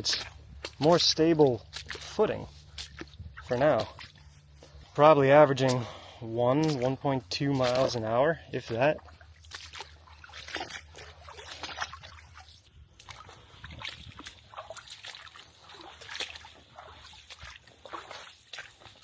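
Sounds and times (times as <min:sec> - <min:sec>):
footsteps splashing through water: 0:00.0 - 0:19.0.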